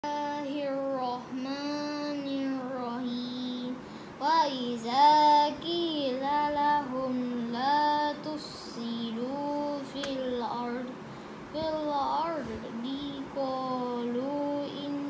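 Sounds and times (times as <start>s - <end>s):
boy chanting verses: 0.0s - 15.0s.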